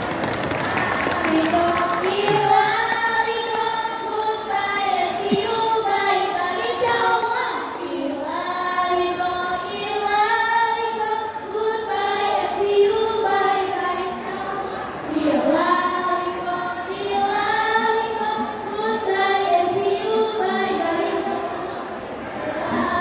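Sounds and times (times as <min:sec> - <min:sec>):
choir of girls singing: 0:00.7 - 0:23.0.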